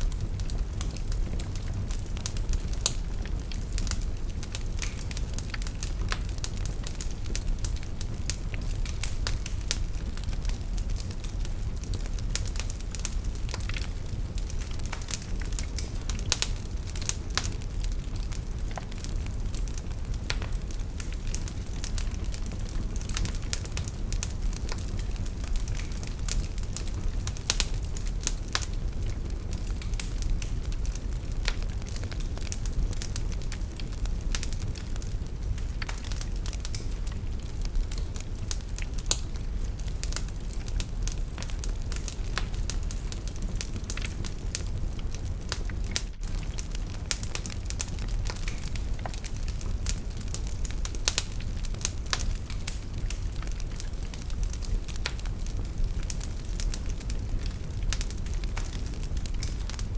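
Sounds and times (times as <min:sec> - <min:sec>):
crackles and pops of fire: 0:00.0 - 0:59.9
wood fire burning: 0:00.0 - 0:59.9.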